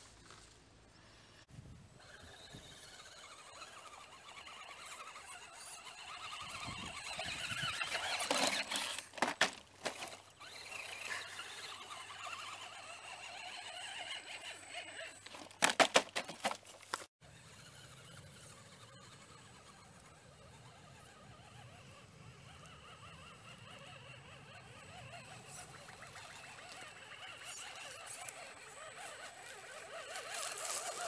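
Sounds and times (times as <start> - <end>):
electric motor and gears whining: 2.0 - 31.0.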